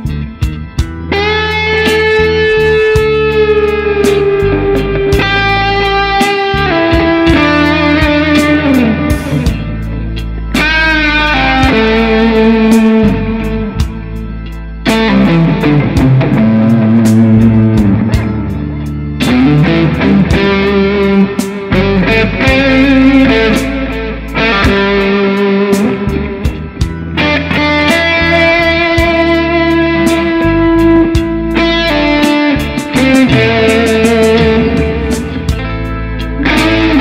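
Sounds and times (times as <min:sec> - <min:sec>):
backing track with steady beat: 0:00.0 - 0:37.0
electric guitar lead solo: 0:00.0 - 0:37.0
low sustained bass: 0:00.0 - 0:37.0.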